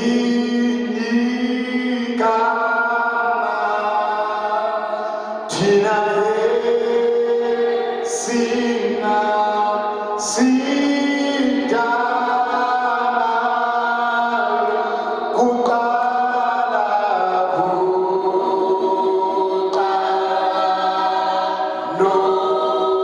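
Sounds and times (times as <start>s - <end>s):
unaccompanied voices singing chords: 0.0s - 23.0s.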